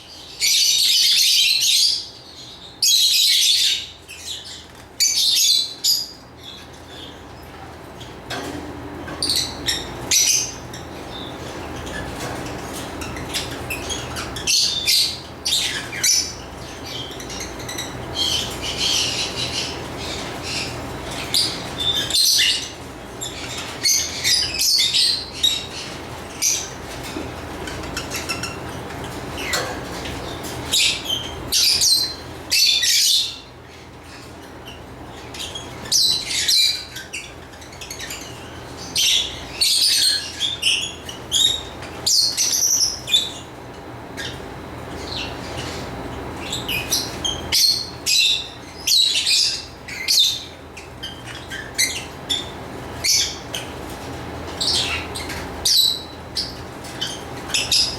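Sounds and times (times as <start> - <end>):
lovebirds chirping and squawking: 0.0 - 57.9.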